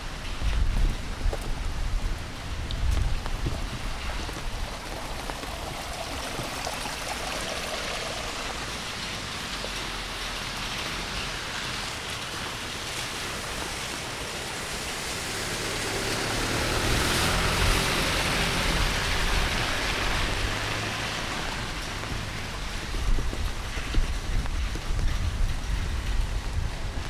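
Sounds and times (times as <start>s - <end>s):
heavy rain in forest: 0.0s - 27.0s.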